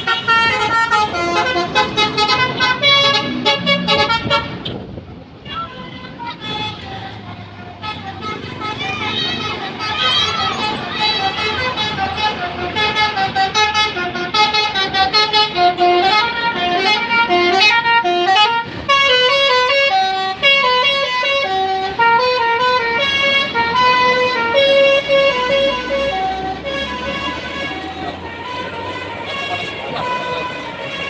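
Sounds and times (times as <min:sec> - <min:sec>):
bus air horn melody: 0:00.0 - 0:04.8, 0:05.4 - 0:31.0.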